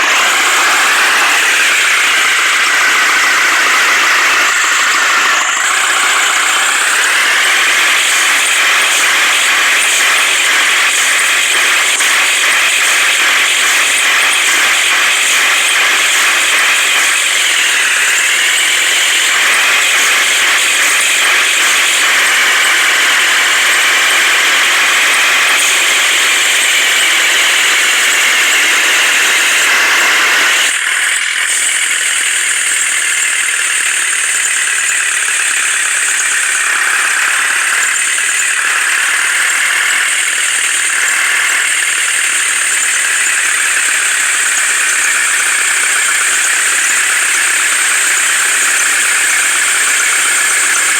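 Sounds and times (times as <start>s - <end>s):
heavy vehicle engine running: 0.0s - 50.9s
high wavering squealing whine: 0.0s - 50.9s.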